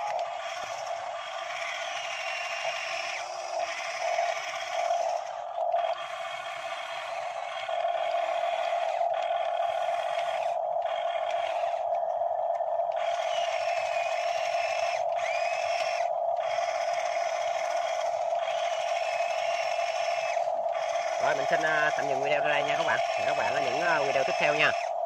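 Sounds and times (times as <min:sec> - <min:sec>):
electric motors whining: 0:00.0 - 0:25.0.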